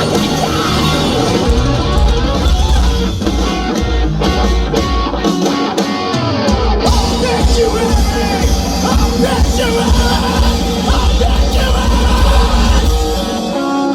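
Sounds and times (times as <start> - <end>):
live rock band playing: 0.0 - 13.9.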